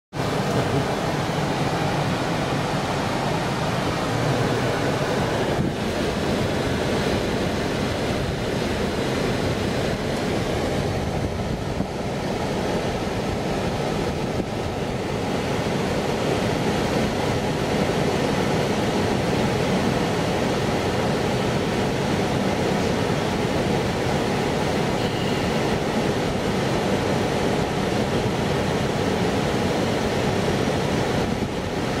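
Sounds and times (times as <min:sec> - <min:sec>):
train wheels rumbling on rails: 0:00.2 - 0:32.0.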